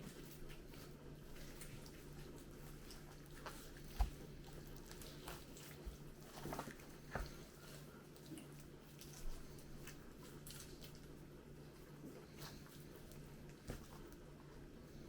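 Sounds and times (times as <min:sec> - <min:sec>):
low steady hum: 0:00.0 - 0:15.0
wet squishing of raw chicken: 0:00.1 - 0:15.0.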